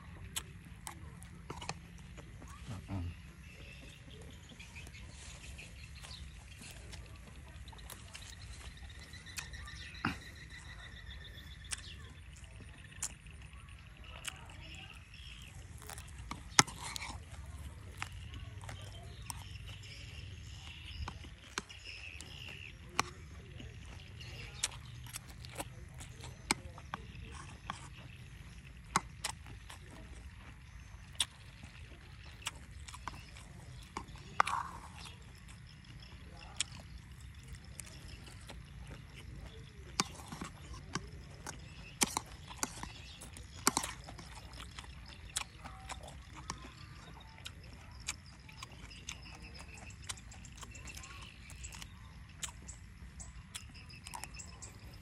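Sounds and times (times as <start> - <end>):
eating clicks and crunches: 0.0 - 55.0.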